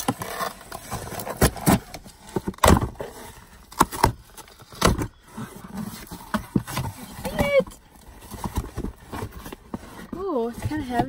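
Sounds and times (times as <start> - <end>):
cardboard box rustling: 0.0 - 11.0.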